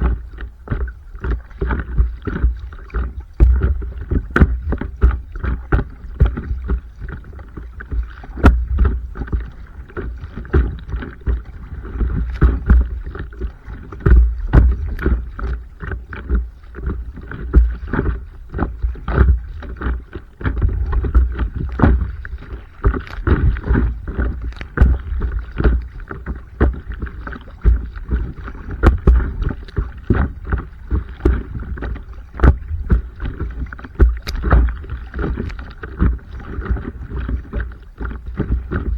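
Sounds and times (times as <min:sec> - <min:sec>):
paddle strokes: 0:00.0 - 0:38.9
water splashing against board: 0:00.0 - 0:38.9
wind rumble on microphone: 0:00.0 - 0:38.9.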